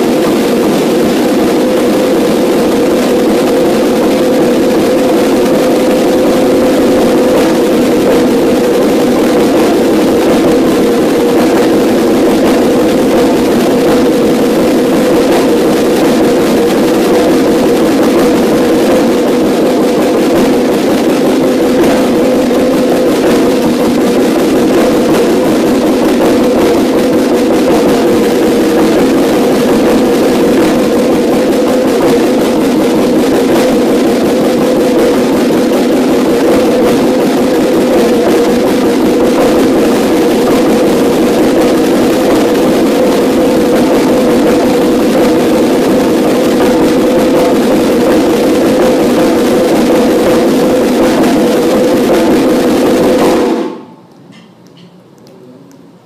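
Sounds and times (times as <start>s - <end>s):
marching snare drums: 0.0s - 54.0s.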